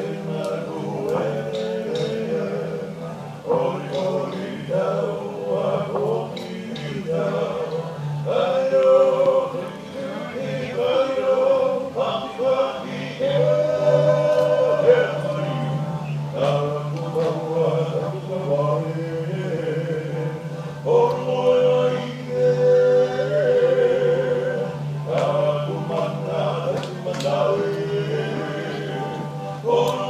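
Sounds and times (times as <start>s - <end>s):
group singing and chanting: 0.0s - 30.0s.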